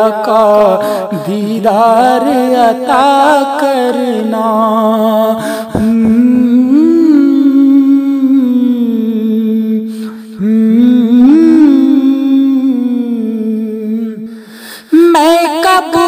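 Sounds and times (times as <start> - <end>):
man singing wordless melody: 0.0 - 16.0.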